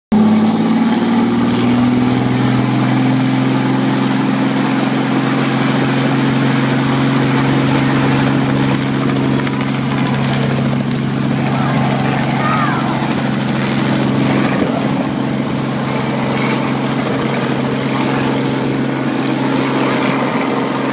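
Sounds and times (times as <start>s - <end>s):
helicopter engine and rotor drone: 0.1s - 20.9s.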